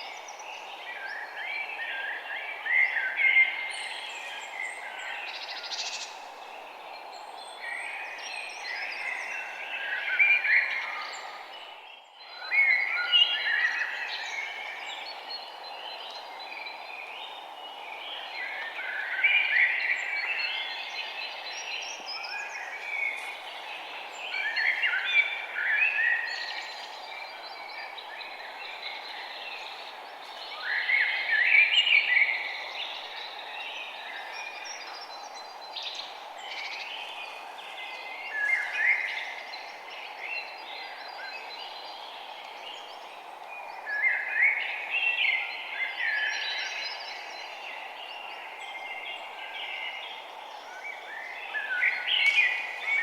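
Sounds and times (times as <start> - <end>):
small birds chirping: 0.0 - 53.0
steady background hiss: 0.0 - 53.0.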